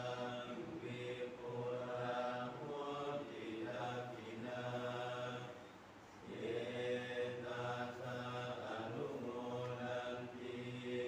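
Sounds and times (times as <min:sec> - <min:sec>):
group chanting in unison: 0:00.0 - 0:05.6, 0:06.2 - 0:11.0.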